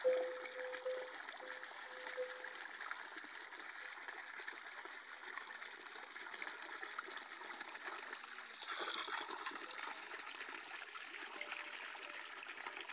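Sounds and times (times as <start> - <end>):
rush of running water: 0.0 - 12.9.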